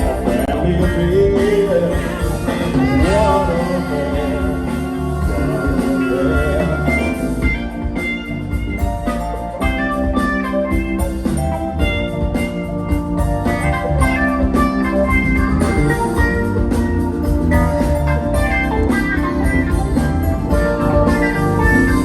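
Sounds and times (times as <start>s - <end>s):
funk band playing: 0.0s - 22.0s.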